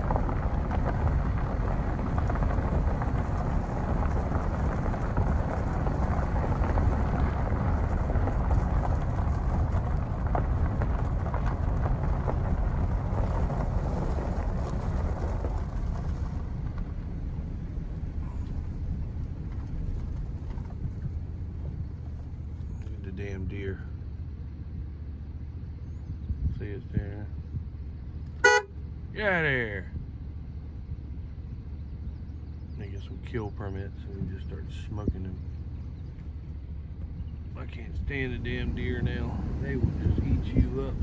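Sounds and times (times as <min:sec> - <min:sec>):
vehicle driving: 0:00.0 - 0:41.0.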